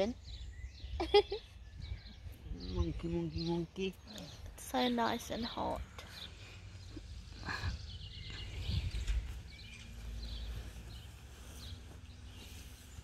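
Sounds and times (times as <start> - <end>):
birds chirping: 0.0 - 13.0
wind rumbling on microphone: 0.2 - 4.6, 7.0 - 13.0.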